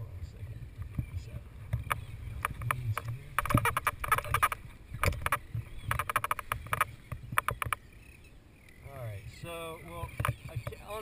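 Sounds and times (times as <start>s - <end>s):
wind rumble: 0.0s - 11.0s.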